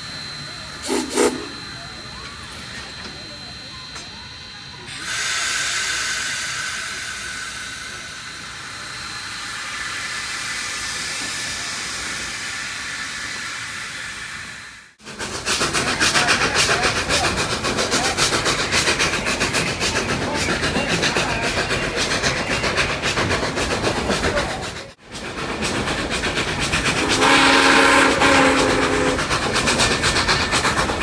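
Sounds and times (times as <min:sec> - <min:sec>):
steam locomotive hissing: 0:00.0 - 0:31.0
steam train rhythmic clatter: 0:00.0 - 0:31.0.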